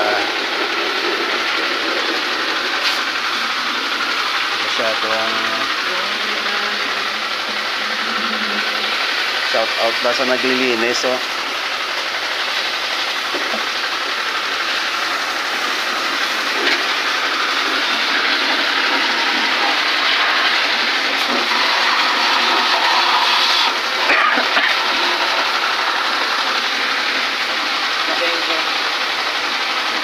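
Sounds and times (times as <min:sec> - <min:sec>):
hose water spraying: 0:00.0 - 0:30.0.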